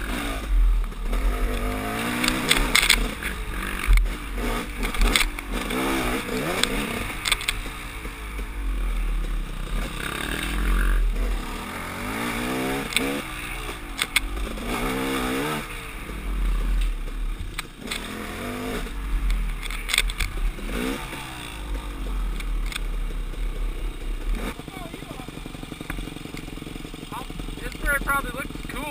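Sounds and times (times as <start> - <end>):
dirt bike engine revving: 0.0 - 28.9
knocks and clatter from bike: 0.1 - 24.6, 25.3 - 28.9.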